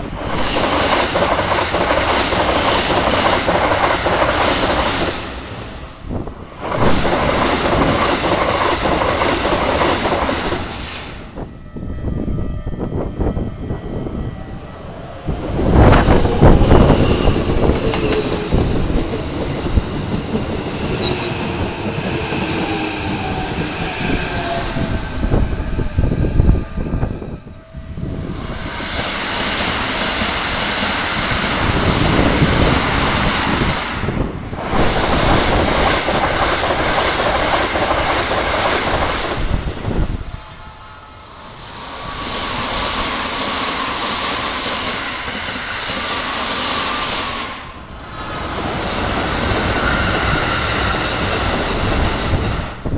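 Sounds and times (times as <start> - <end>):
electric trains passing at speed: 0.0 - 52.9.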